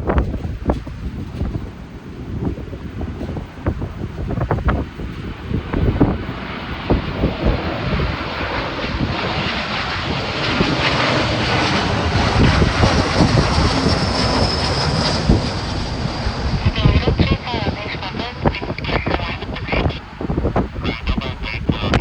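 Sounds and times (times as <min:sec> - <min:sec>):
high jet engine whine: 0:00.0 - 0:22.0
jet engines roaring: 0:00.0 - 0:22.0
wind buffeting microphone: 0:00.0 - 0:22.0.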